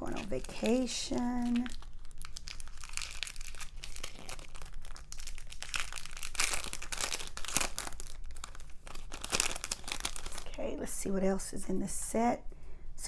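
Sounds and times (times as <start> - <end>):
plastic packaging crinkling: 0.0 - 10.7.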